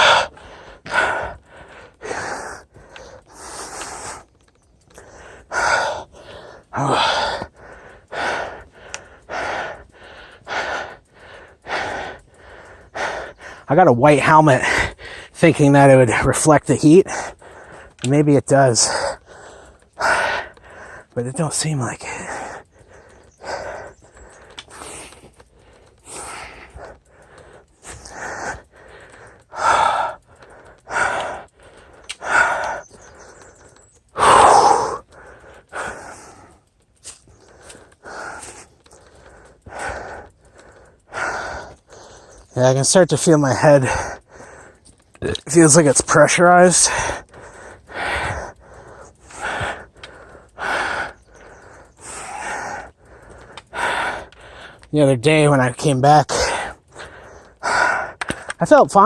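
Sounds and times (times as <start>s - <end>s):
man breathing hard: 0.0s - 59.0s.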